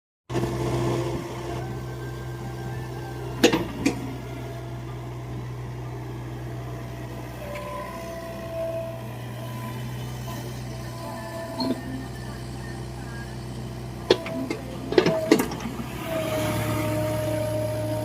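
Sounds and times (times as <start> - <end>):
engine running low drone: 0.3 - 18.0.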